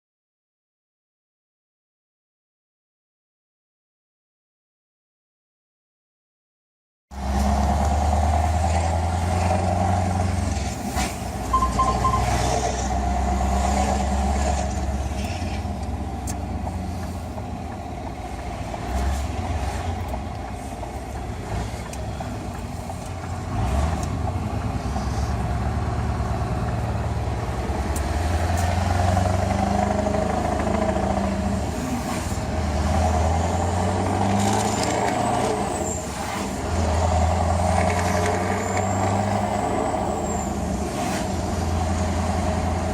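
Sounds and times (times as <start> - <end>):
truck engine through open exhaust: 7.2 - 42.9.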